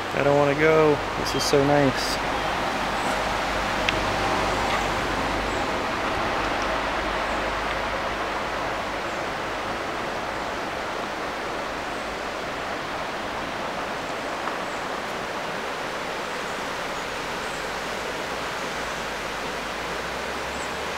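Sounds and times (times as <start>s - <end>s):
river rushing over rocks: 0.0s - 20.9s.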